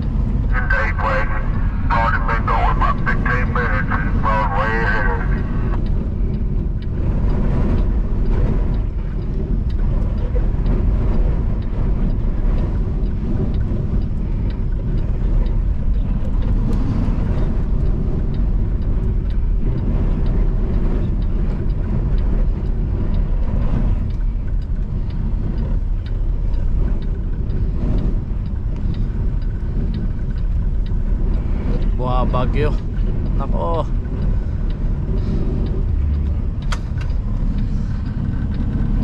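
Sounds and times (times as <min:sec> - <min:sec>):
road and wind noise: 0:00.0 - 0:39.0
truck engine drone: 0:00.0 - 0:39.0.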